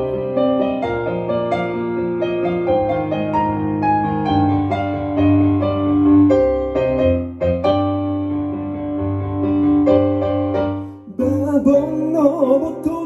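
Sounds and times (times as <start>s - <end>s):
solo piano chords and melody: 0.0s - 13.0s.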